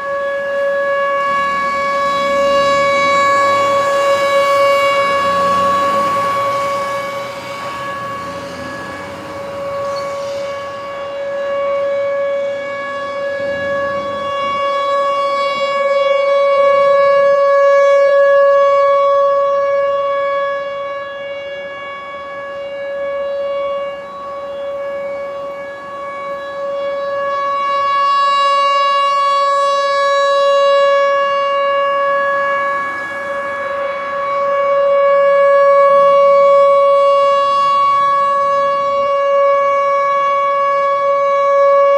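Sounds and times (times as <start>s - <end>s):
tornado warning siren: 0.0s - 41.9s.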